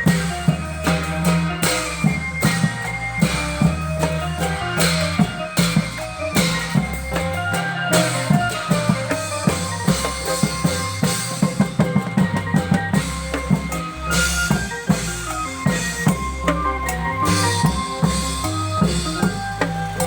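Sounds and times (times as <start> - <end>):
drums beating busy rhythm: 0.0 - 20.0
held-note melody: 0.0 - 20.0.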